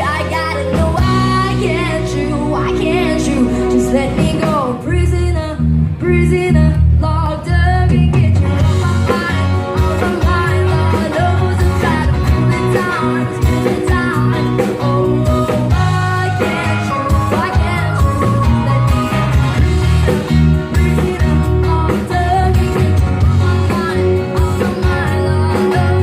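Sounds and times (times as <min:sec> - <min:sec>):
live band music: 0:00.0 - 0:26.0
person singing with vibrato: 0:00.0 - 0:26.0.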